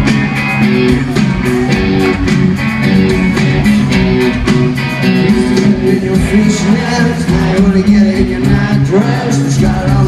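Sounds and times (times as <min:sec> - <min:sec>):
electric guitar riff: 0:00.0 - 0:09.8
steady drum beat: 0:00.0 - 0:10.0.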